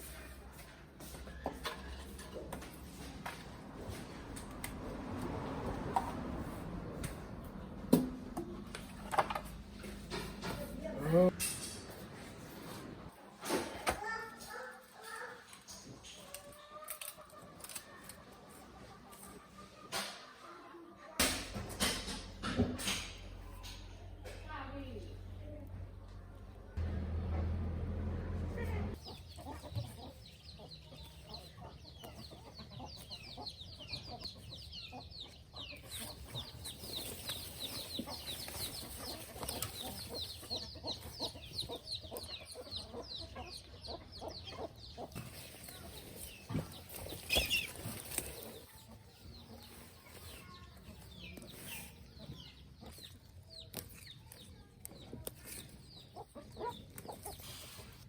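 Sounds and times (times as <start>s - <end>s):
chickens clucking: 0.0s - 24.4s, 28.6s - 58.0s.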